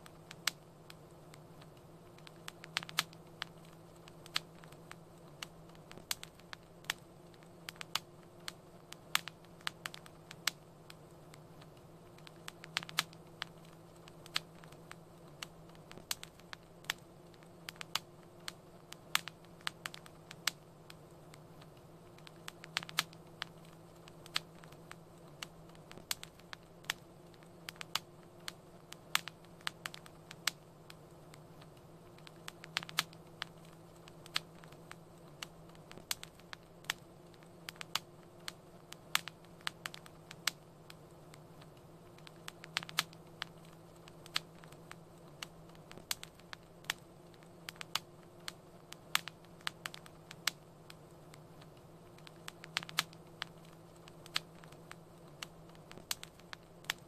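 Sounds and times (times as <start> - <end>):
faint low hum: 0.0 - 57.0
wood fire crackling and popping: 0.0 - 57.0.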